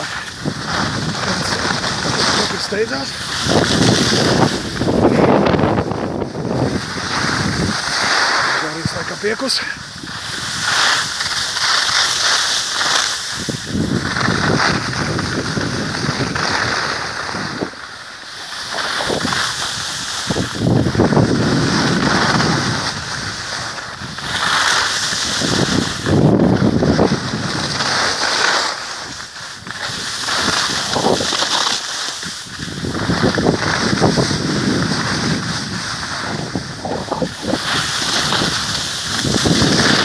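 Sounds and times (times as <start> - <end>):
wind on microphone: 0.0 - 12.2, 13.2 - 17.8, 18.6 - 28.3, 29.0 - 40.0
skis scraping over snow: 0.0 - 40.0.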